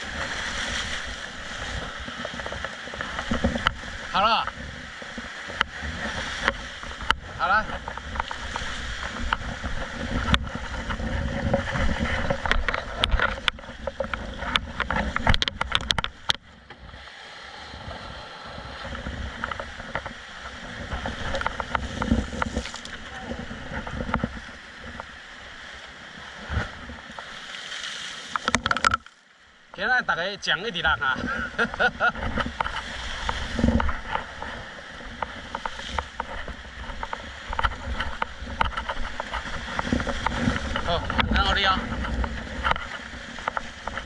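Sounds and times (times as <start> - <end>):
water sloshing around kayak: 0.0 - 29.9, 30.8 - 44.0.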